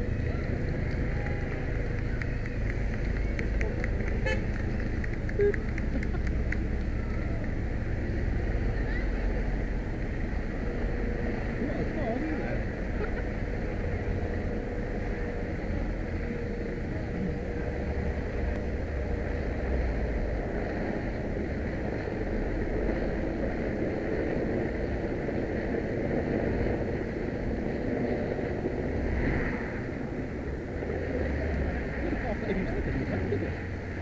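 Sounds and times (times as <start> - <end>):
cars and vans driving past: 0.0 - 34.0.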